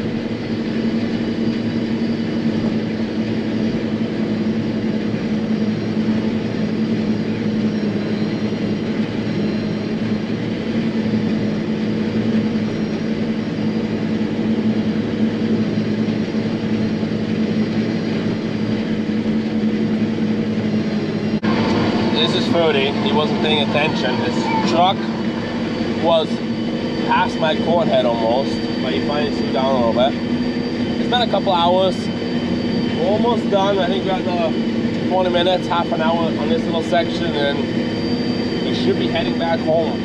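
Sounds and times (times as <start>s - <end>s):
forage harvester humming: 0.0s - 40.0s.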